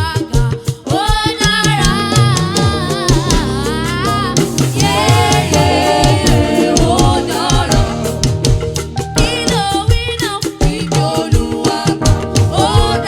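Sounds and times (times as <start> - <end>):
person singing with vibrato: 0.0 - 8.5, 9.2 - 13.0
band with drums and bass: 0.0 - 13.0.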